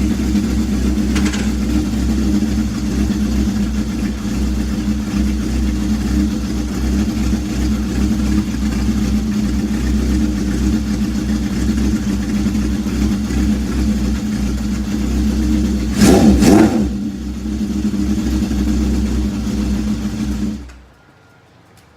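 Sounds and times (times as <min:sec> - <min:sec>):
motorcycle engine revving: 0:00.0 - 0:20.7
motorcycle engine idling: 0:00.0 - 0:21.0.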